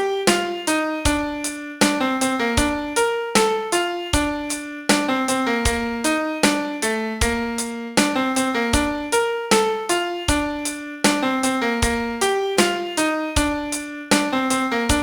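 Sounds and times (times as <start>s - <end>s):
solo piano melody: 0.0s - 15.0s.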